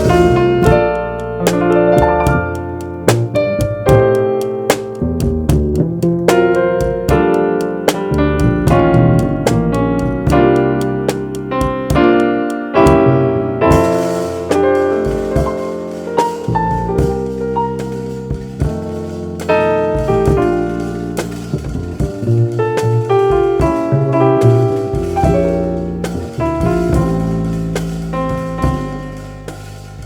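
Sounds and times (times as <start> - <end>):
drum ticks: 0.0 - 29.0
bass line: 0.0 - 30.0
keyboard chords: 0.0 - 30.0.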